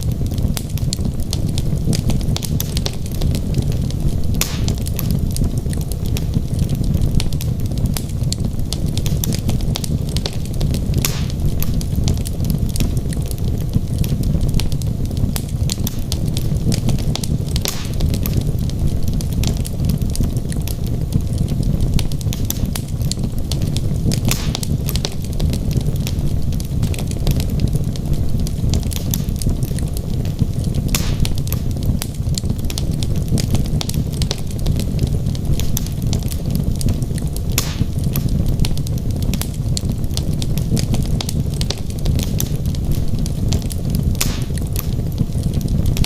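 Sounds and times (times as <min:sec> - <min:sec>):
fire popping and snapping: 0:00.0 - 0:46.0
logs burning in a fireplace: 0:00.0 - 0:46.0.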